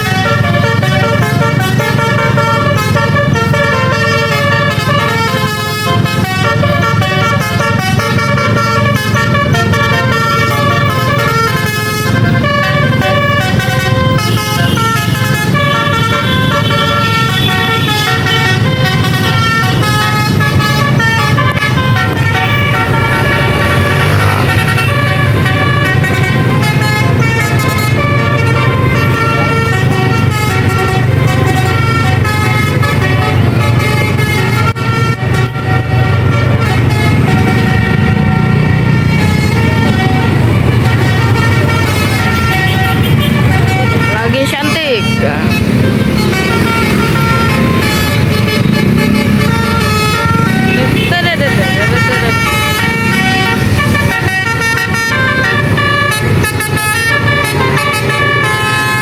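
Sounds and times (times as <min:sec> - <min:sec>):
musical air horns playing tune: 0:00.0 - 0:59.0
vehicle engine running: 0:00.0 - 0:59.0.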